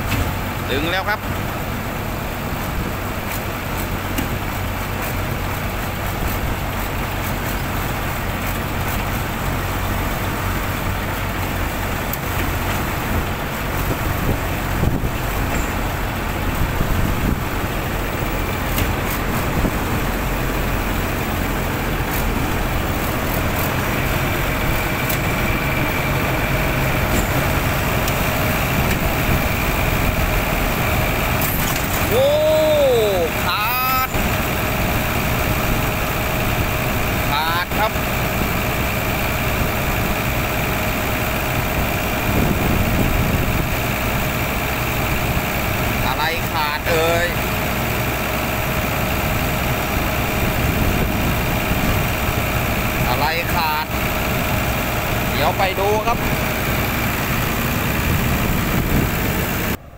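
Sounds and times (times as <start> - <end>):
truck engine running under load: 0.0 - 59.9.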